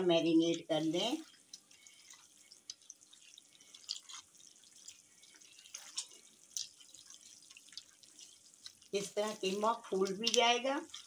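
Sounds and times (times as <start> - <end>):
hands squelching wet mince: 0.0 - 11.0.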